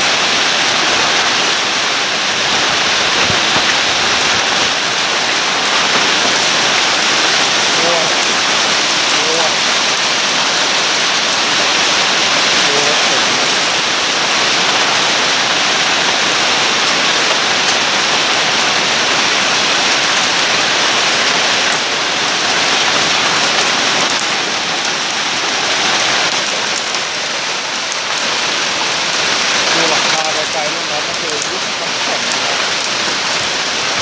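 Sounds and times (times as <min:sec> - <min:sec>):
heavy rain and hail falling: 0:00.0 - 0:34.0.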